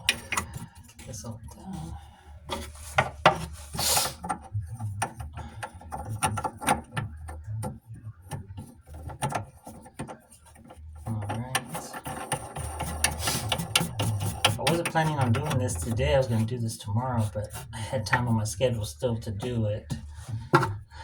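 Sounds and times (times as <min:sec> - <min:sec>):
plumbing parts clicking and knocking: 0:00.0 - 0:21.0.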